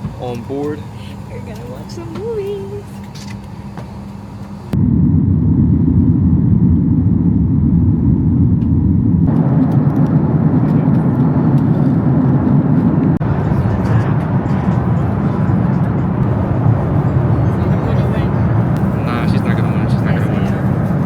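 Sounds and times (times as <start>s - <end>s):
jet engine cabin rumble: 0.0s - 21.0s.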